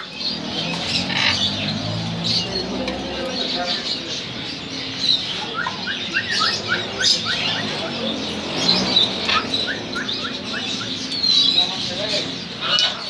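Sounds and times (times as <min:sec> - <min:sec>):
high-pitched bird calls: 0:00.0 - 0:13.0.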